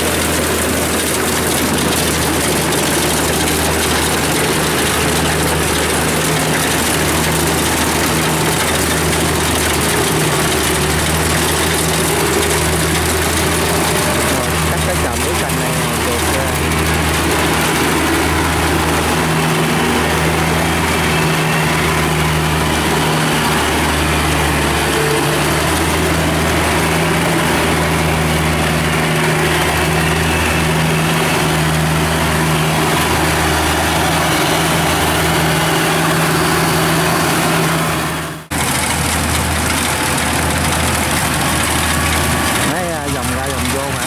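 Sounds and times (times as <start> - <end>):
combine harvester engine droning: 0.0 - 44.0
noisy machinery wash: 0.0 - 44.0.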